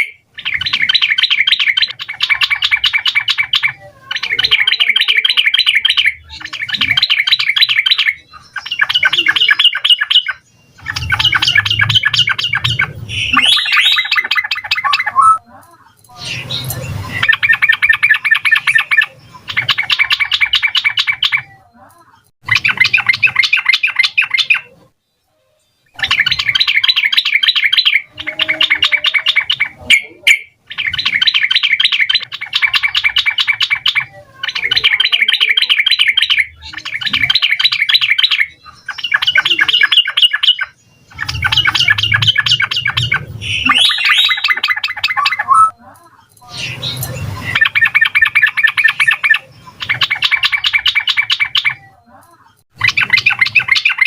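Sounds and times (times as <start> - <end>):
bulbul chattering song: 0.0 - 25.0, 25.6 - 54.0.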